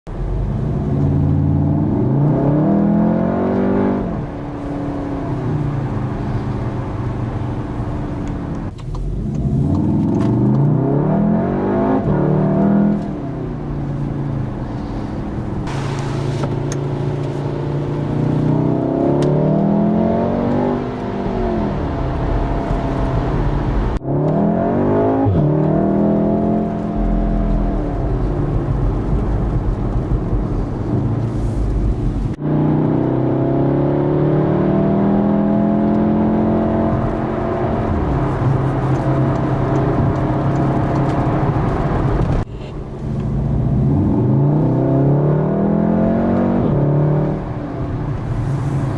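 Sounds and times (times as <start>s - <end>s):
car engine accelerating: 0.1s - 48.9s.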